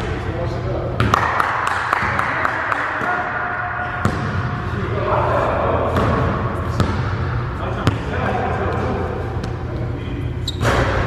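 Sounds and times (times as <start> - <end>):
players' voices: 0.0 - 11.0.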